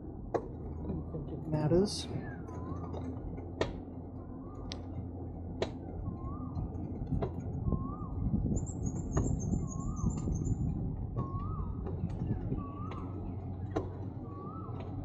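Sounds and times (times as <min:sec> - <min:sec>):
low rumble of bicycle riding: 0:00.0 - 0:15.0.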